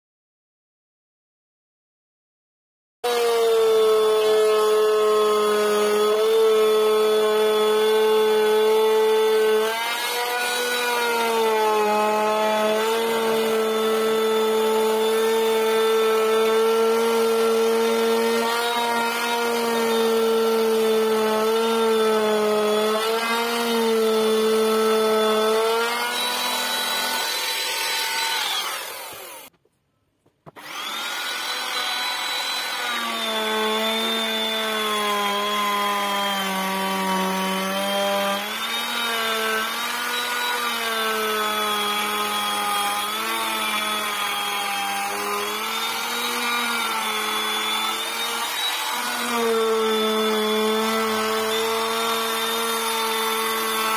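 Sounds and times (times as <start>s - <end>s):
power tool cutting wood: 3.0s - 29.6s, 30.4s - 53.9s.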